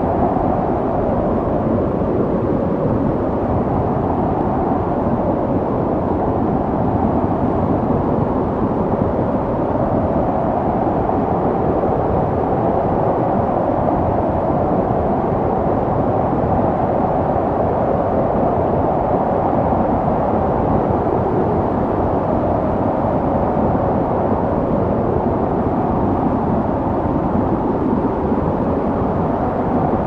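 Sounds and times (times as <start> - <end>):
snowstorm wind blowing: 0.0 - 30.0.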